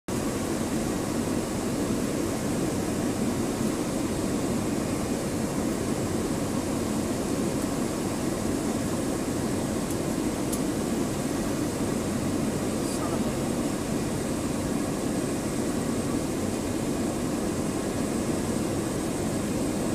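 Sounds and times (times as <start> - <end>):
turboprop engine and propeller: 0.1 - 19.9.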